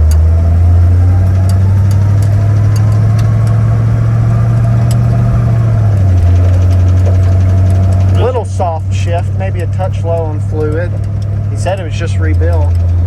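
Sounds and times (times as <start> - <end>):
car engine pulling steadily: 0.0 - 13.0.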